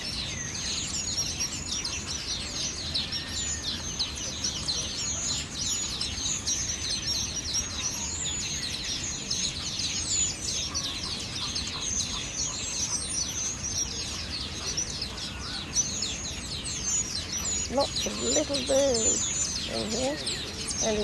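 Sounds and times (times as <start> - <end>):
many small birds chirping: 0.0 - 21.0.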